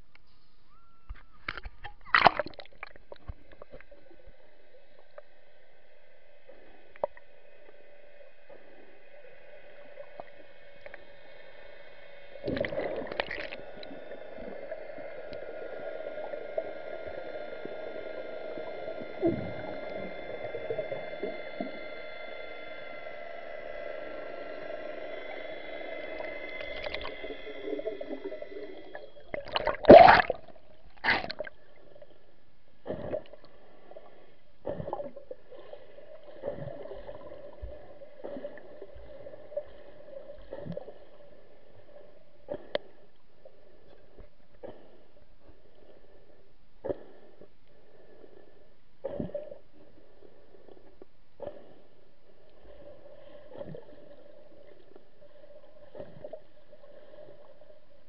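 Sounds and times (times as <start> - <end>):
faint high whines: 0.0 - 2.0, 3.4 - 58.0
underwater low hum: 0.0 - 58.0.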